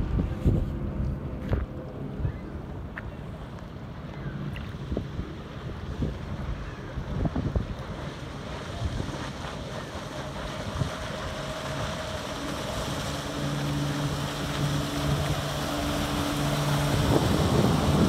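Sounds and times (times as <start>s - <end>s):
wind on microphone: 0.0s - 3.2s, 4.1s - 18.0s
outboard motor running: 0.0s - 18.0s.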